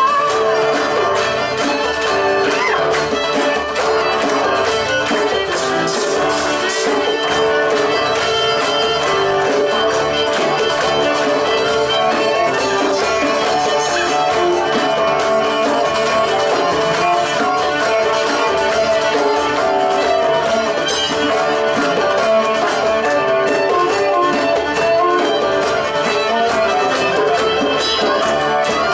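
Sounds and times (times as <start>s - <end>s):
fiddle: 0.0s - 28.9s
hand drum beat: 0.0s - 28.9s
strummed acoustic guitar: 0.0s - 28.9s.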